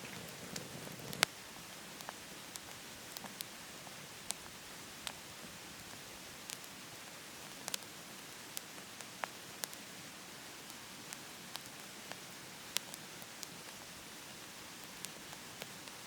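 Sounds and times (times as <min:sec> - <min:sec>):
steady hiss: 0:00.0 - 0:16.0
wood fire crackling: 0:00.0 - 0:16.0.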